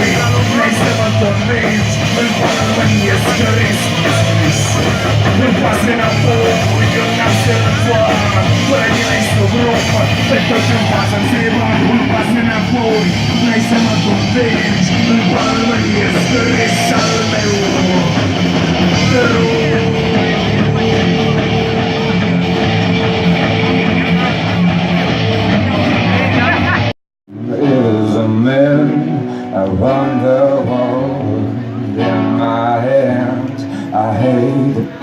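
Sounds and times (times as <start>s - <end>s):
loud rock music: 0.0s - 35.0s.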